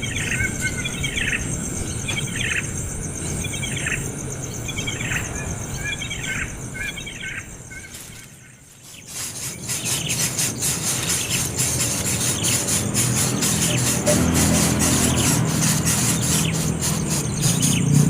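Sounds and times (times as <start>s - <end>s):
bird chirping: 0.0s - 18.0s
high insect drone: 0.0s - 18.0s.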